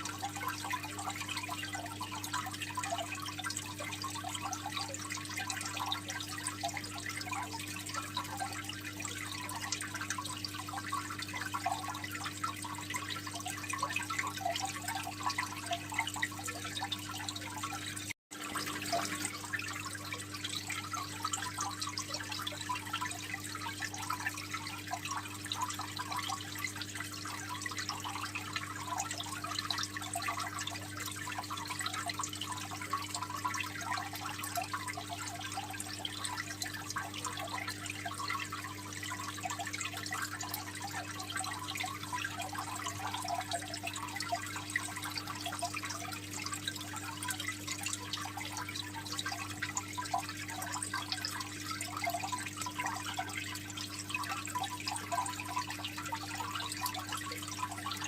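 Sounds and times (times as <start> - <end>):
aquarium water trickling: 0.0 - 58.0
drips and bubbles: 0.0 - 58.0.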